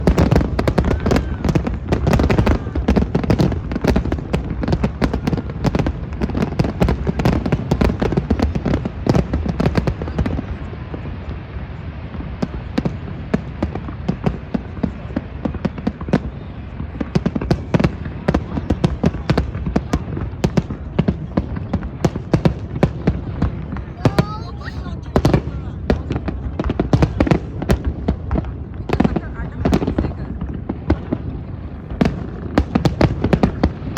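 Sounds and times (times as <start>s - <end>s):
fireworks cracks and bangs: 0.0s - 33.9s.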